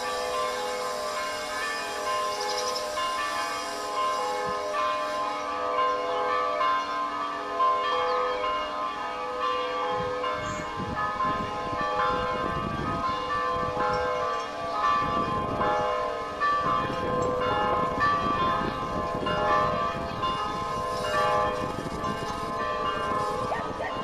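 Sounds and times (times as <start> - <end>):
church bells pealing: 0.0 - 24.0.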